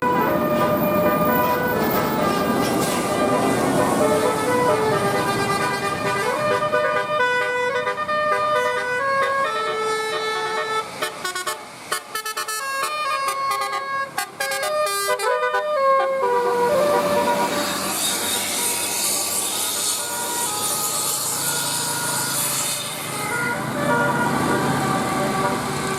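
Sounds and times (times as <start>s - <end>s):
multi-tone air horn tune: 0.0s - 25.9s.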